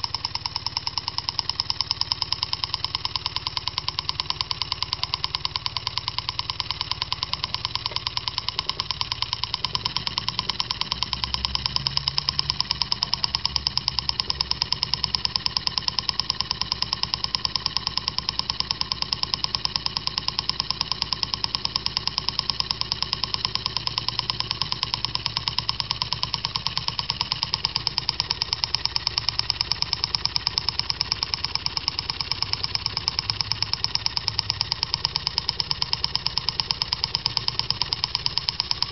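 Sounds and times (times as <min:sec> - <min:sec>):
small engine clattering rapidly: 0:00.0 - 0:38.9.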